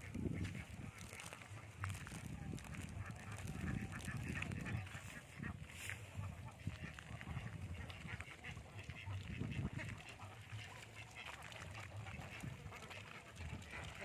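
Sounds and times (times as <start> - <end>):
ducks quacking: 0.0 - 14.0.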